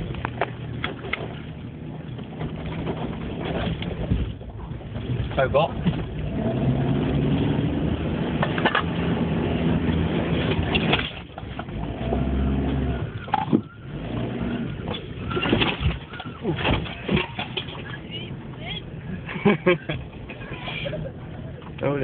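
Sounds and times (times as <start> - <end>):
knocks and rattles over bumps: 0.0 - 22.0
truck engine pulling: 0.0 - 22.0.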